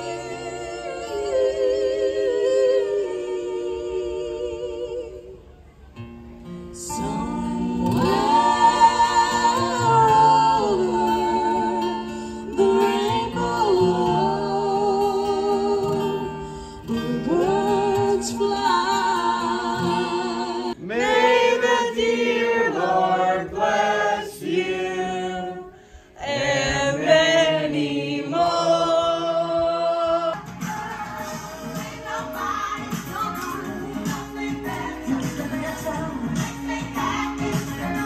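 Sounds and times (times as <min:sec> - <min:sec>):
voices singing with vibrato: 0:00.0 - 0:05.7, 0:06.8 - 0:38.0.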